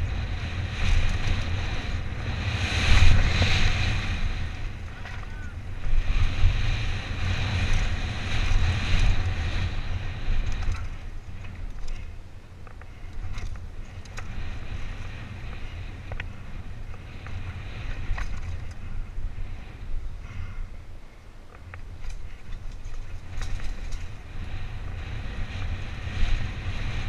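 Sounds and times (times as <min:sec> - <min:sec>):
bike clicks and rattles: 0:00.0 - 0:27.0
bike tyres on trail: 0:00.0 - 0:27.0
wind buffeting microphone: 0:00.0 - 0:27.0.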